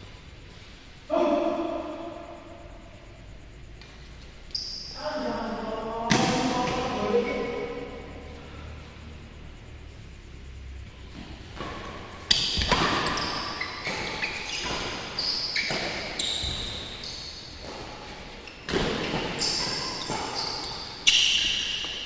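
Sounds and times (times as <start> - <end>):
shoe squeaks: 0.2 - 8.0, 11.0 - 22.0.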